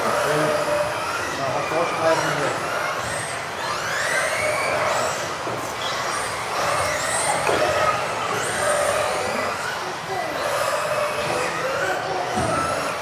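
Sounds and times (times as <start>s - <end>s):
high-pitched electric motor whines: 0.0s - 13.0s.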